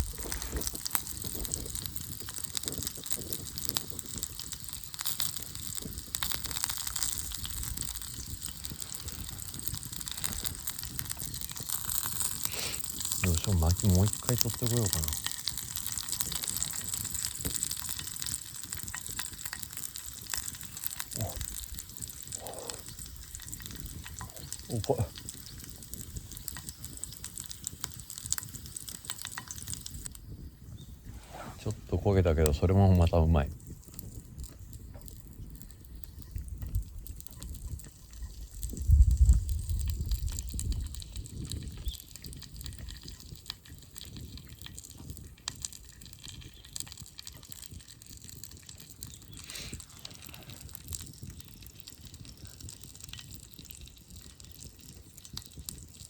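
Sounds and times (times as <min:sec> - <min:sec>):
fire rushing noise: 0:00.0 - 0:51.3
campfire crackling: 0:00.0 - 0:56.0.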